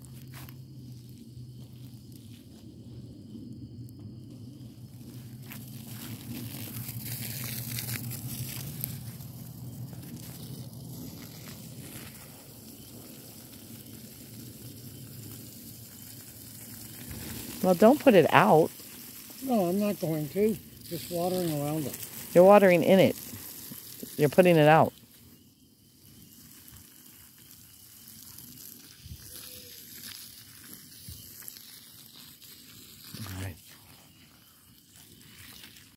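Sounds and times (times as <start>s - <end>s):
fire crackling: 0.0s - 35.9s
water hissing on fire: 0.0s - 35.9s.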